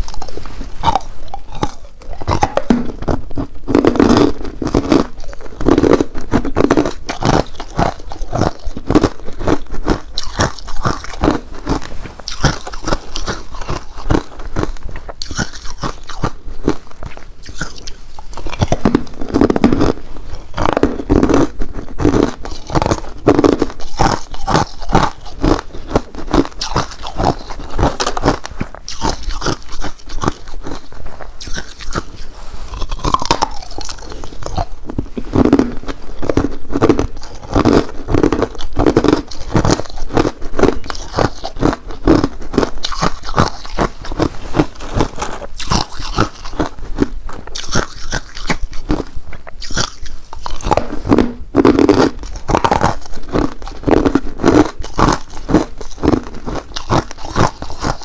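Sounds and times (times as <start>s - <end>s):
ice crunching between teeth: 0.0s - 58.0s.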